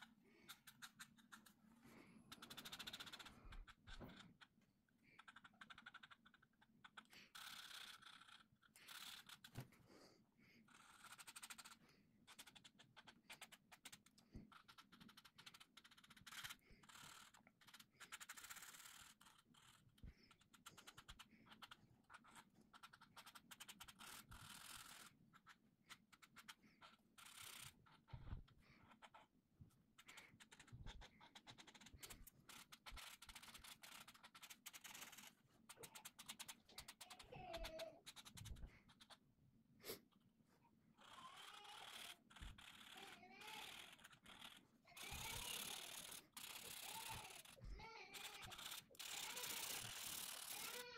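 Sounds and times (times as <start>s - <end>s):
felt-tip marker scratching on paper: 0.0s - 40.2s, 40.9s - 50.9s.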